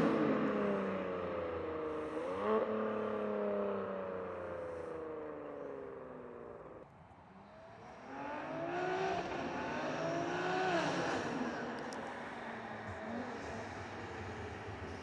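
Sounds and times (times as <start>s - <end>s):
car engine accelerating hard: 0.0s - 6.8s, 7.4s - 15.0s.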